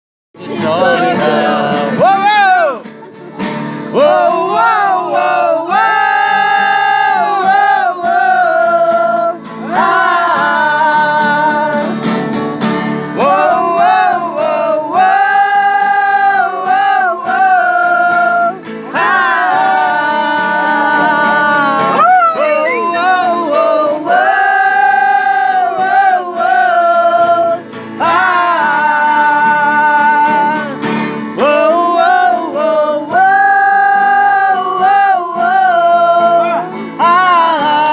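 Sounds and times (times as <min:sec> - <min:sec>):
person singing: 0:00.4 - 0:03.0, 0:03.8 - 0:12.3, 0:13.2 - 0:37.9
guitar accompaniment: 0:00.4 - 0:37.9.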